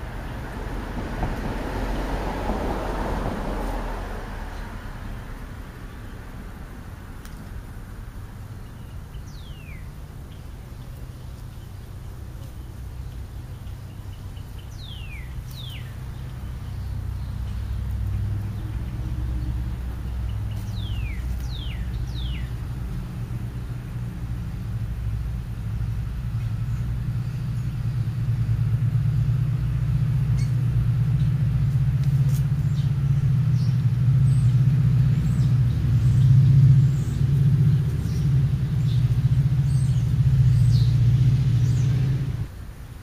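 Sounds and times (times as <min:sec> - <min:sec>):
low motor rumble: 0:00.0 - 0:43.0.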